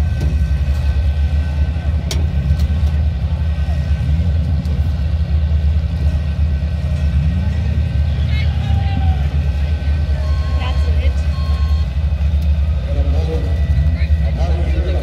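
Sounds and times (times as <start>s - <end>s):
engines and heavy equipment rumbling: 0.0s - 15.0s.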